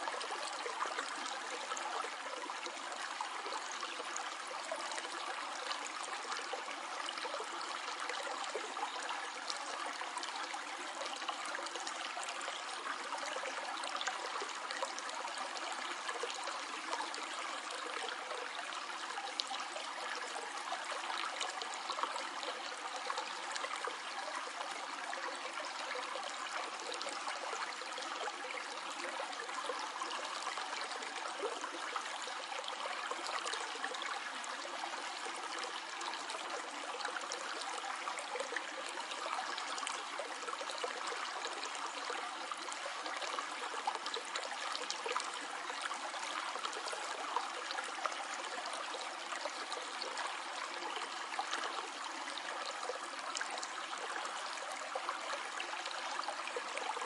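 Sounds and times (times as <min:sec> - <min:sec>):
stream of water flowing: 0:00.0 - 0:57.0.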